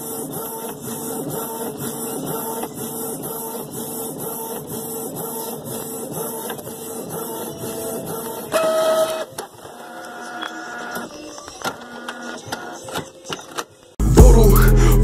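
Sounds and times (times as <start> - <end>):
printer whirring and clicking: 0.0 - 13.9.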